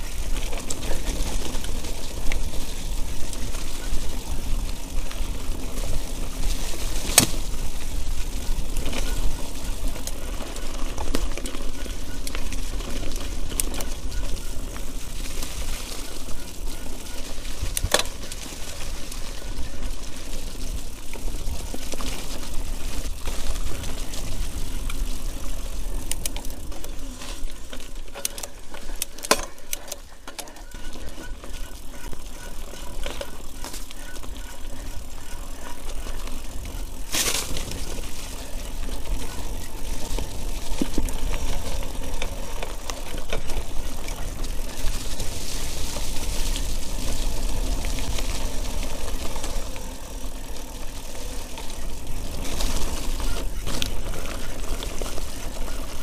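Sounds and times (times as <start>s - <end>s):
bike frame and chain rattling: 0.0s - 56.0s
bike tyres on mud and roots: 0.0s - 56.0s.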